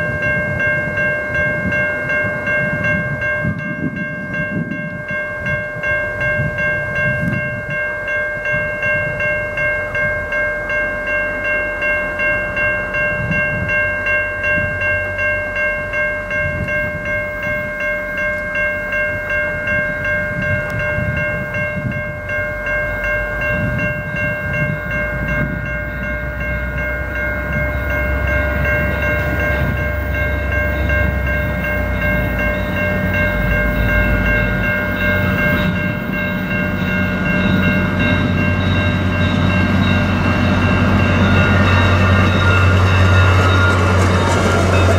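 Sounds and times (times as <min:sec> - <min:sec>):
diesel locomotive rumble: 0:00.0 - 0:44.9
level-crossing warning bell ringing: 0:00.0 - 0:44.9.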